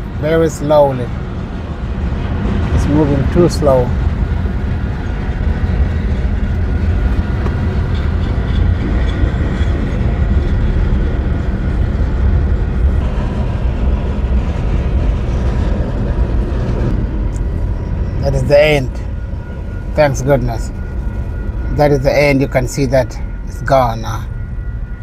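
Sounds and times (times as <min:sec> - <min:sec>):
freight train rumbling: 0:00.0 - 0:25.0.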